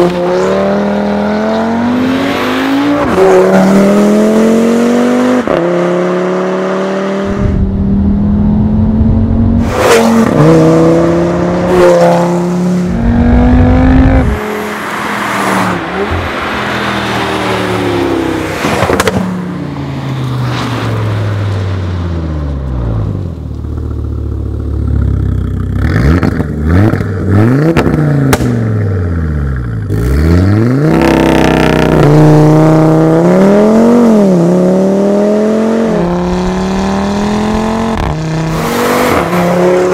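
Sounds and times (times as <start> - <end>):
car engine accelerating and revving: 0.0 - 19.9, 24.9 - 39.9.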